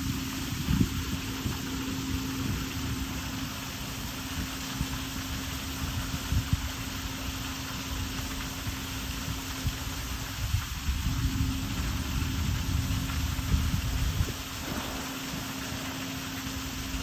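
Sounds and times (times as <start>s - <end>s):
wind buffeting microphone: 0.0s - 7.2s, 7.9s - 17.0s
fountain water splashing: 0.0s - 17.0s.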